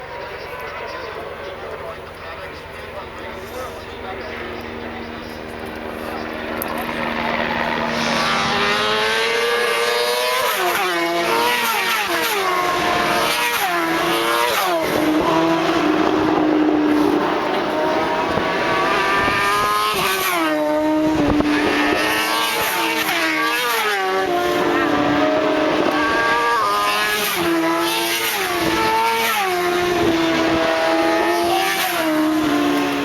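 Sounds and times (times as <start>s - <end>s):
racing motorcycles passing: 0.0s - 33.0s.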